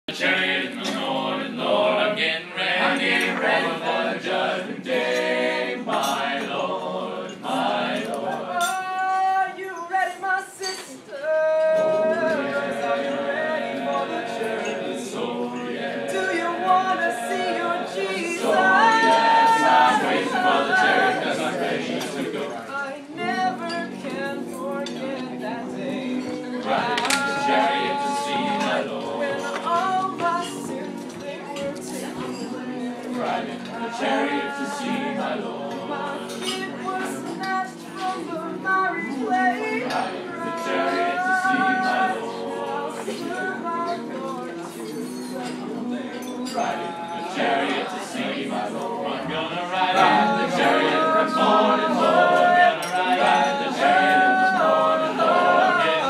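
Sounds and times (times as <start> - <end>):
male choir singing in harmony: 0.1 - 56.0.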